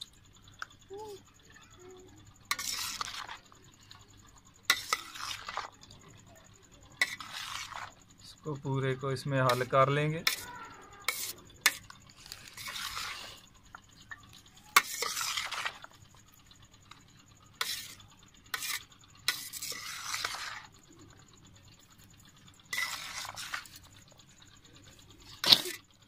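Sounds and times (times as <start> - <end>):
spoon scraping and swishing food: 2.4 - 25.9.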